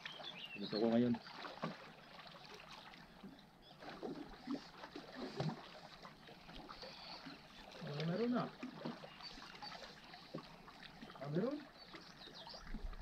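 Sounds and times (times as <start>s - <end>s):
faint waves lapping rocks: 0.0s - 13.0s.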